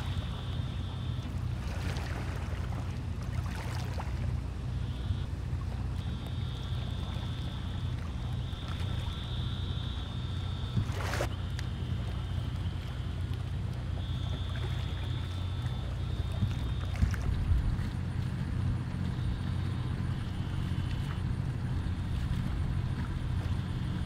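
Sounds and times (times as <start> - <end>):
motor idling hum: 0.0 - 24.0.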